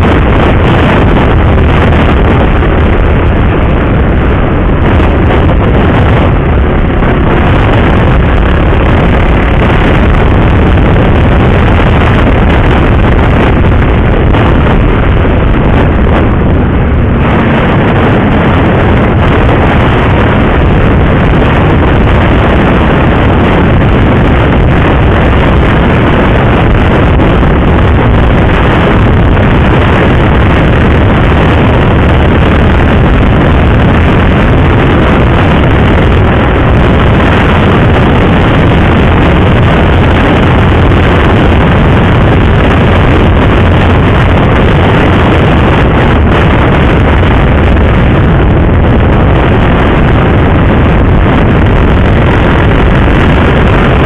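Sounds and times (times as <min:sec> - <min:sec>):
motorcycle engine: 0:00.0 - 0:54.0
road noise: 0:00.0 - 0:54.0
wind rushing over microphone: 0:00.0 - 0:54.0.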